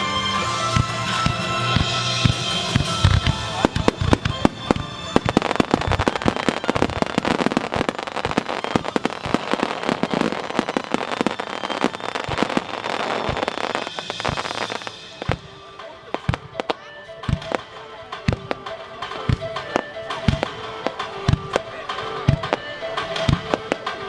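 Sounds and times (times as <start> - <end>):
firework crackling: 0.0 - 24.0
firework shells bursting: 0.6 - 24.0.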